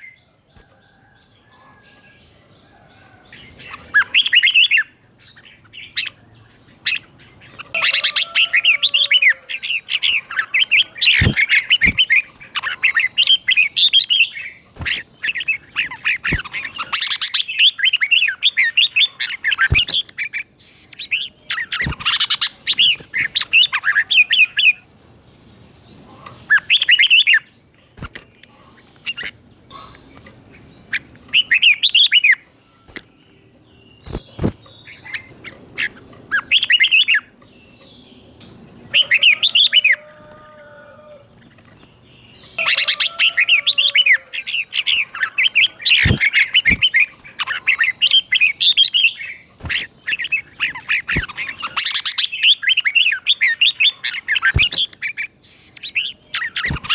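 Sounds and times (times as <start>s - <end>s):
bird singing warbled phrases: 0.0s - 56.9s.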